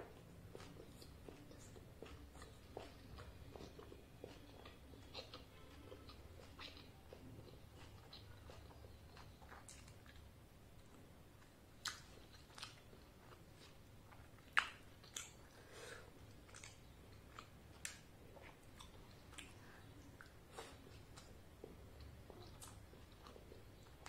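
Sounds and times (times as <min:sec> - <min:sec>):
person chewing and biting: 0:00.5 - 0:15.5, 0:16.4 - 0:24.0.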